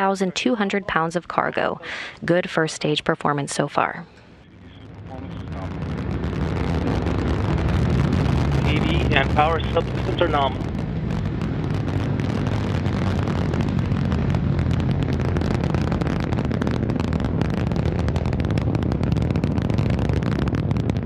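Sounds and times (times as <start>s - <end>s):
rocket engines rumbling and crackling: 0.0s - 21.0s.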